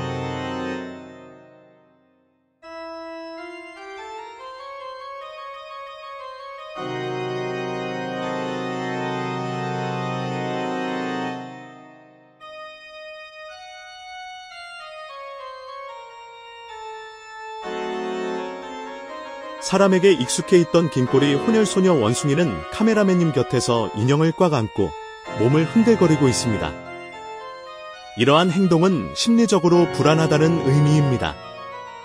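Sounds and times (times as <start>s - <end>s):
organ music: 0.0s - 2.0s, 2.6s - 32.0s.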